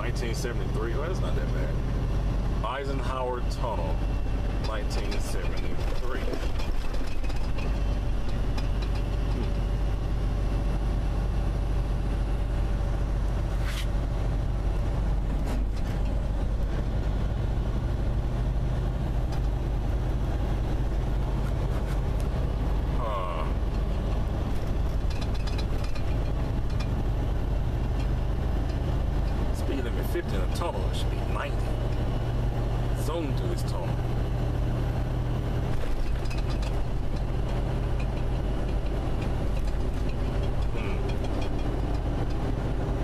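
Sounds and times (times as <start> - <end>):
road noise in tunnel: 0.0 - 43.0
vehicle engine drone: 0.0 - 43.0.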